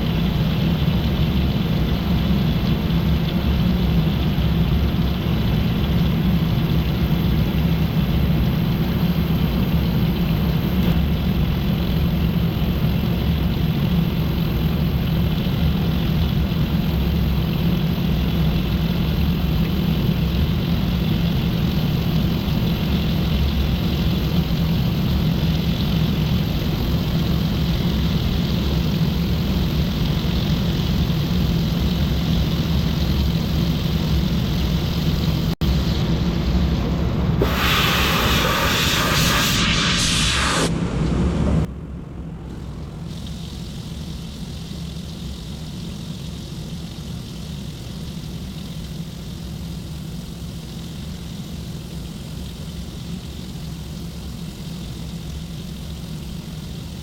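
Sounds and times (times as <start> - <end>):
machine droning with low hum: 0.0 - 57.0.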